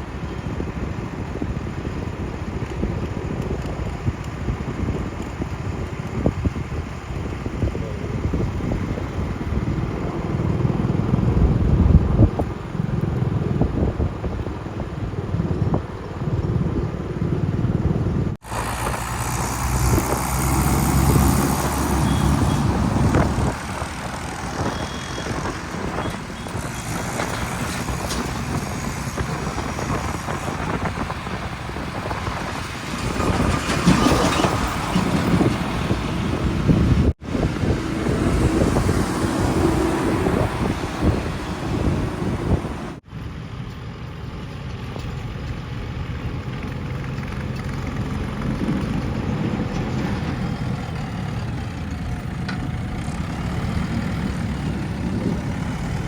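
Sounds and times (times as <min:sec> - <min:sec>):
diesel engine rumble: 0:00.0 - 0:56.0.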